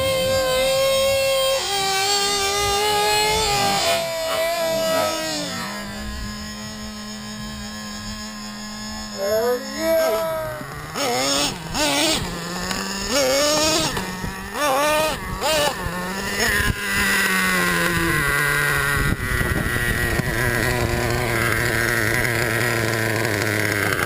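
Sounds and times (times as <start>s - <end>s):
small nitro engines revving: 0.0s - 24.0s.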